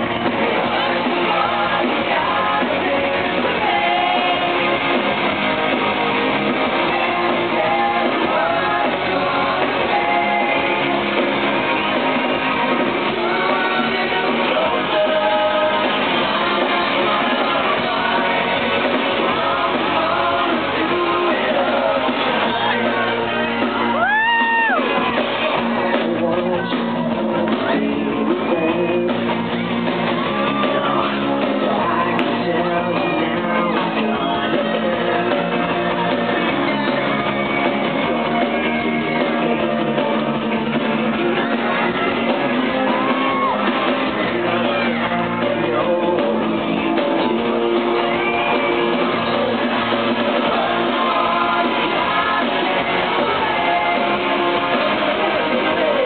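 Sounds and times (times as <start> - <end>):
drums: 0.0 - 56.0
electric guitars: 0.0 - 56.0
fans shouting: 0.0 - 56.0
man singing into a microphone: 0.4 - 4.8, 6.8 - 11.3, 13.0 - 23.8, 25.6 - 29.6, 30.3 - 37.1, 41.2 - 56.0.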